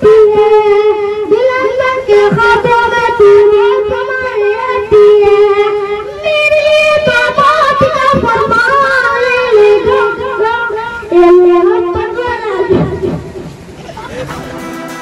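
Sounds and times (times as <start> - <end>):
boy singing into a microphone: 0.0 - 13.4.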